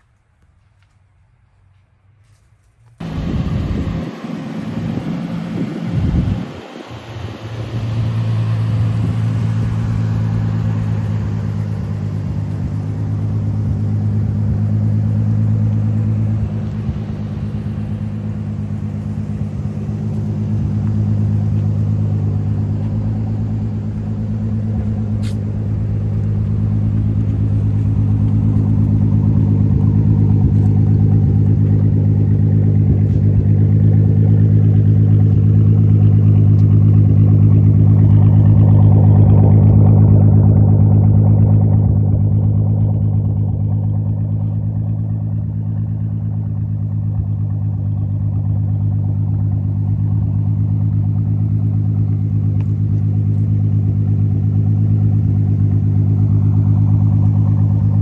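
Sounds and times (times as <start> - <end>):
engine and exhaust droning: 0.0 - 58.0.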